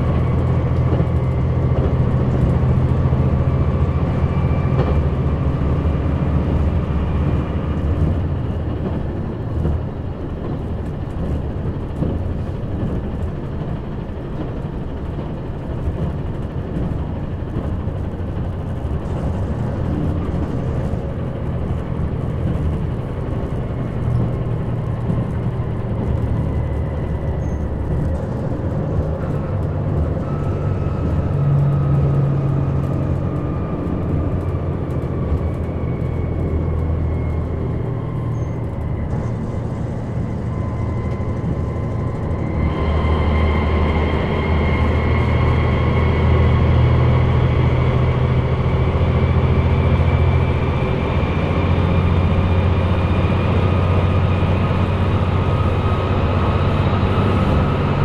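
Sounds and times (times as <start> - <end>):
deep engine drone: 0.0 - 58.0.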